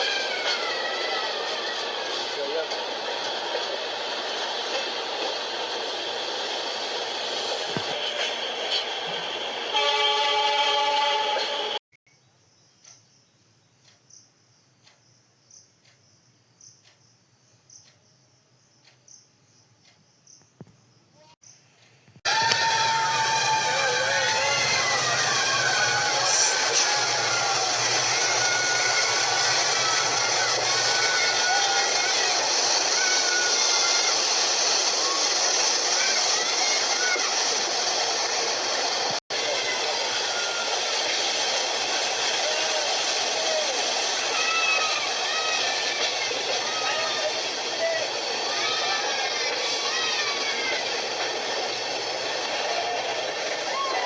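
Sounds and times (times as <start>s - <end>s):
train wheels rushing on rails: 0.0s - 11.8s, 21.9s - 54.0s.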